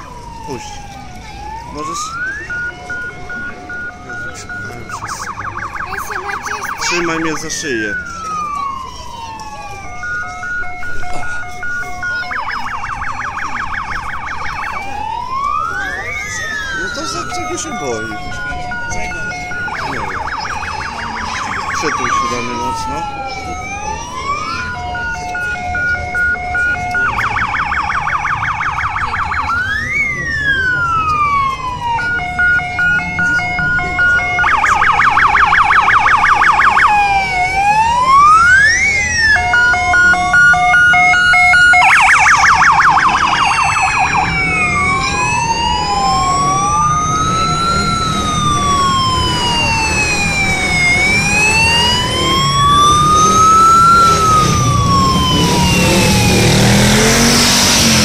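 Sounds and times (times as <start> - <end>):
motorcycle engines rumbling: 0.0 - 58.0
police siren: 0.0 - 58.0.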